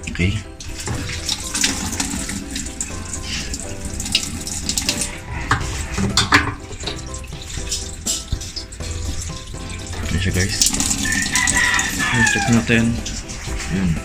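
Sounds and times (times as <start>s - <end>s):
water splashing from a hose: 0.5s - 14.0s.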